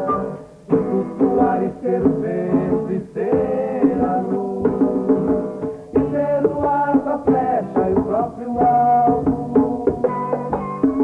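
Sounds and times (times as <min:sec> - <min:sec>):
group singing folk song: 0:00.0 - 0:10.4
acoustic guitar: 0:00.0 - 0:11.0
hand drum: 0:00.0 - 0:11.0.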